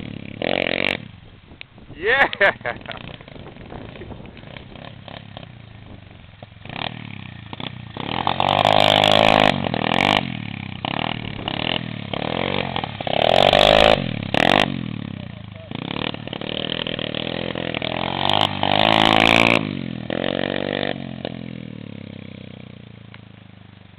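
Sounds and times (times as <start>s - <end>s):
pit bike engine revving: 0.0s - 1.2s, 2.1s - 23.4s.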